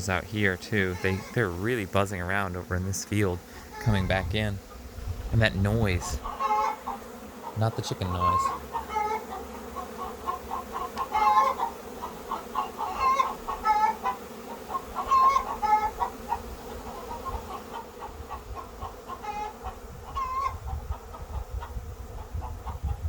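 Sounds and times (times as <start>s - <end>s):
chickens clucking and squawking: 0.0s - 23.0s
honey bee swarm humming: 0.0s - 23.0s.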